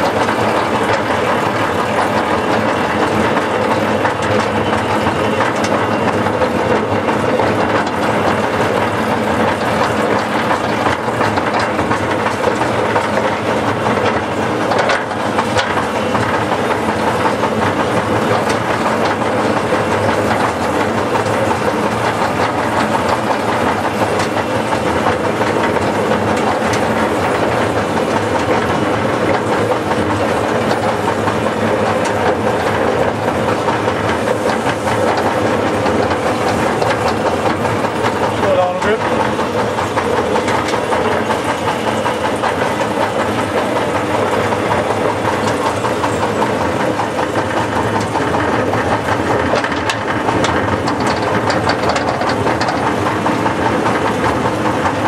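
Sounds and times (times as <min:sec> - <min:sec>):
miniature steam locomotive running: 0:00.0 - 0:55.0.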